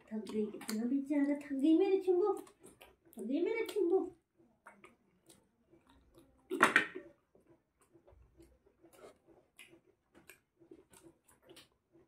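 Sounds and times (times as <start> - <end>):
wet smacking and chewing: 0.0 - 1.4, 2.1 - 12.0.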